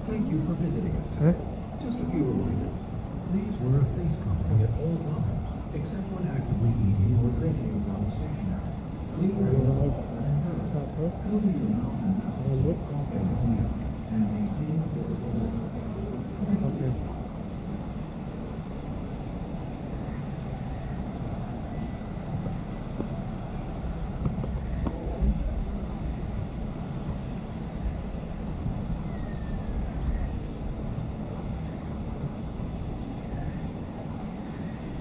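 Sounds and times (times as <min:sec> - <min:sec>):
low rumbling background noise: 0:00.0 - 0:35.0.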